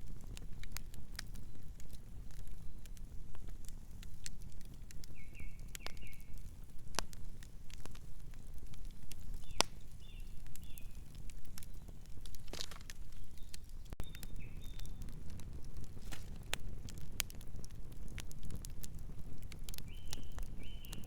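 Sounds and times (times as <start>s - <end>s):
campfire crackling: 0.0s - 21.0s
wood popping: 0.1s - 21.0s.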